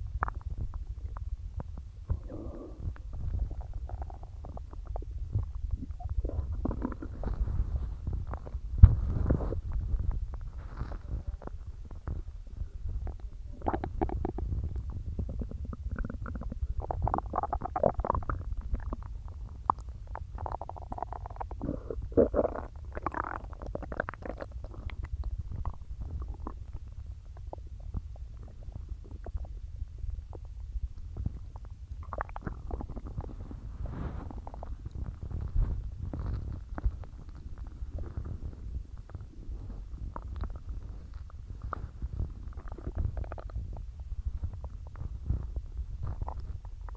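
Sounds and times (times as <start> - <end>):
constant low rumble: 0.0 - 46.9
stomach gurgling: 0.0 - 46.9.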